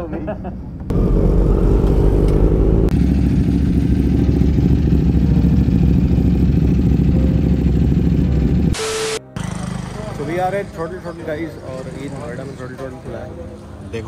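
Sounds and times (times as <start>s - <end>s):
motorcycles idling: 0.9s - 8.8s, 9.4s - 13.0s.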